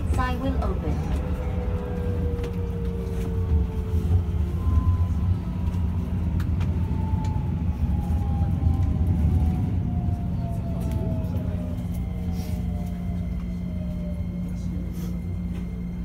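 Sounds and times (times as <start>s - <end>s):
train motor whine: 0.0s - 16.0s
wheels rumbling on rail: 0.0s - 16.0s.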